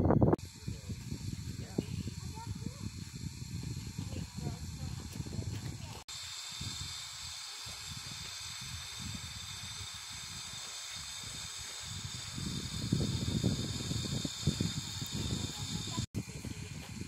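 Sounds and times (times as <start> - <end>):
steam hissing from locomotive: 0.4 - 17.0.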